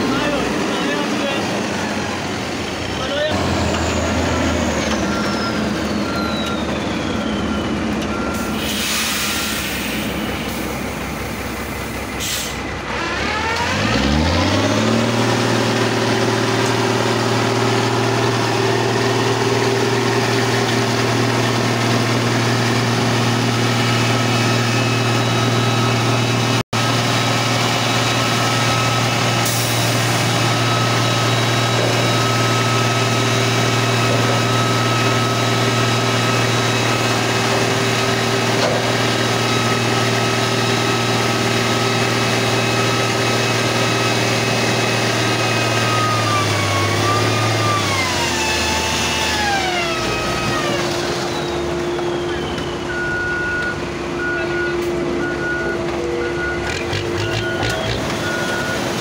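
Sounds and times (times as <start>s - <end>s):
diesel engines running: 0.0s - 59.0s
dump truck tipping rocky fill: 0.0s - 59.0s.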